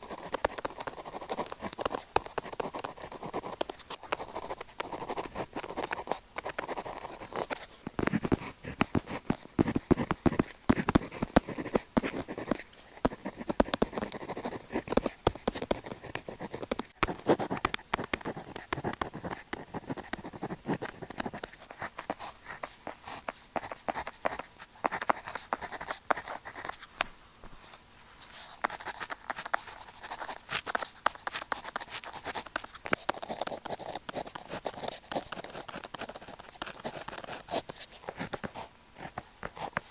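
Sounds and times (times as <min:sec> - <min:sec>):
pen scratching on paper: 0:00.0 - 0:26.9, 0:28.3 - 0:39.9.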